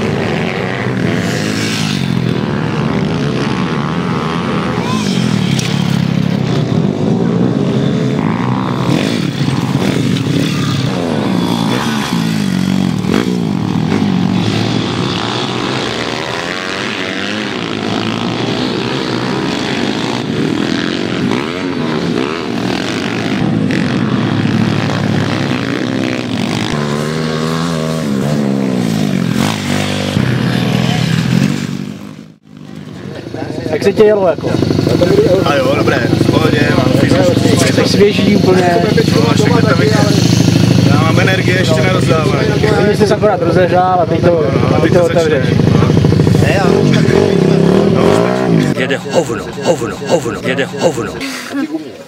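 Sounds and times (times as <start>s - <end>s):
pit bike engines revving: 0.0s - 52.0s.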